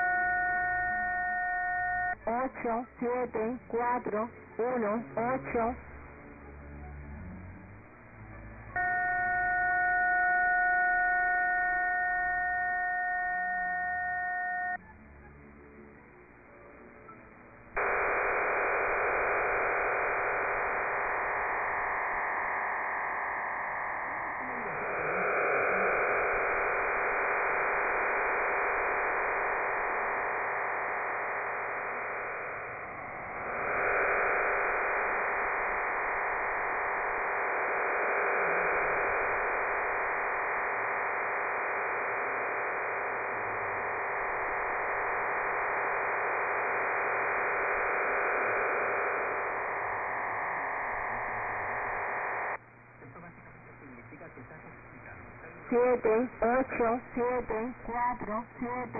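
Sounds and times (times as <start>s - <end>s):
shortwave data burst hiss: 0.0s - 14.8s, 17.8s - 52.6s, 53.2s - 58.9s.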